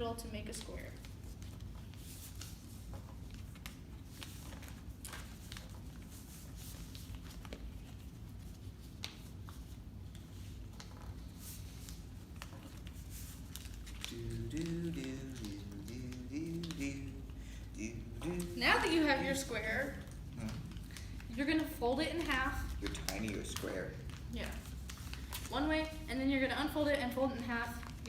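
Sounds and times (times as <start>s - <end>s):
low room hum: 0.0s - 28.0s
paper being folded: 0.0s - 28.0s.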